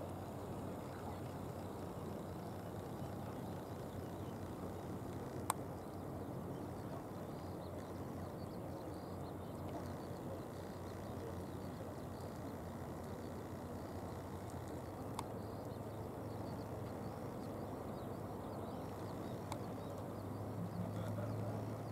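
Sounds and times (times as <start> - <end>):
outdoor background noise by water: 0.0 - 21.9.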